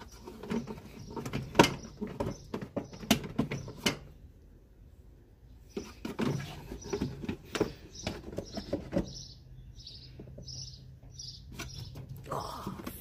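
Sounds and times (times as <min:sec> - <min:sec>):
bird chirping: 0:00.0 - 0:04.3, 0:05.4 - 0:12.6.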